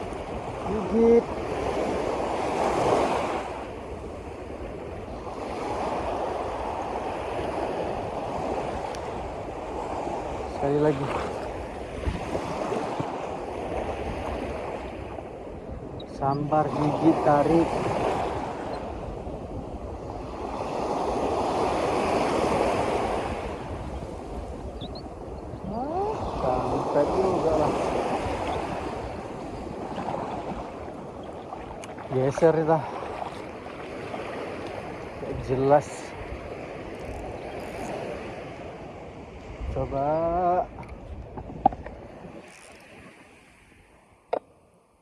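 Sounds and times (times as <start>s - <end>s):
waves and moving water: 0.0s - 45.0s
wind: 0.0s - 45.0s.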